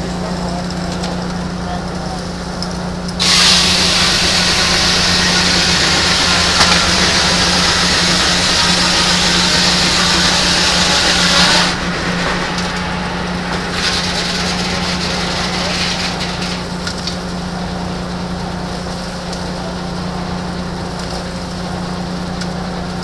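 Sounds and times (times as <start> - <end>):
low hum of mill drive: 0.0 - 23.0
circular saw cutting log: 3.1 - 22.6.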